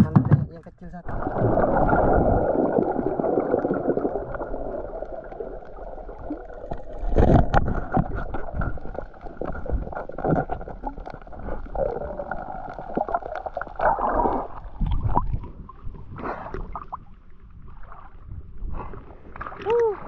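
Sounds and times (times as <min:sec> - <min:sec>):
underwater gurgling and rushing: 0:01.0 - 0:20.0.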